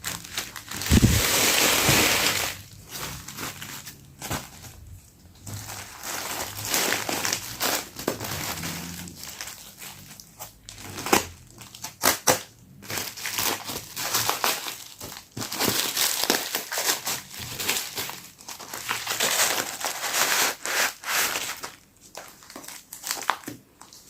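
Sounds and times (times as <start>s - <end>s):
packaging crinkling and rustling: 0.0s - 24.0s.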